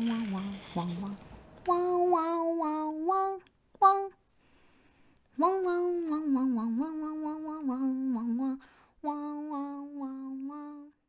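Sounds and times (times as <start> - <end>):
woman humming: 0.0 - 4.2, 5.4 - 11.0.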